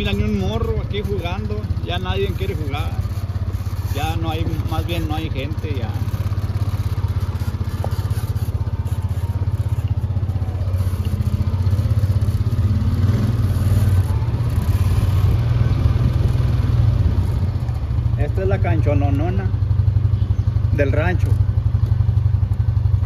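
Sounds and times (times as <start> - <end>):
quad bike engine running: 0.0 - 23.0.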